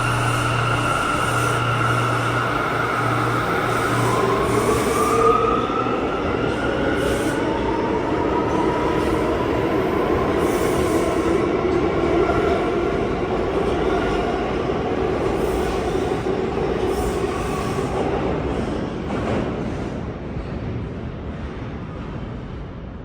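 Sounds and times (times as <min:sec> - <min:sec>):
subway train running noise: 0:00.0 - 0:23.0.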